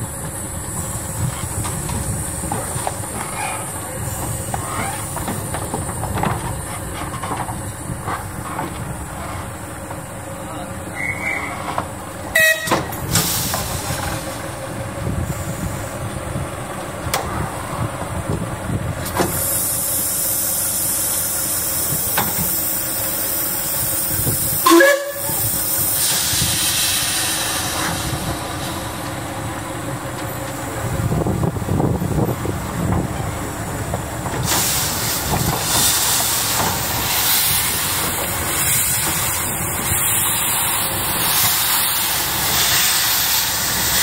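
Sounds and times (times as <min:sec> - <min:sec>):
loud hiss of steam: 0:00.0 - 0:16.6, 0:17.3 - 0:44.0
steam locomotive rumble: 0:00.0 - 0:44.0.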